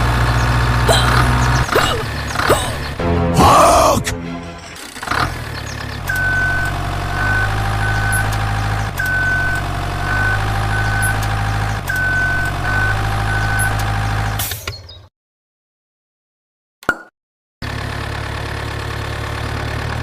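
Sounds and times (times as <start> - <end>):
truck engine idling: 0.0 - 14.4, 17.6 - 20.0.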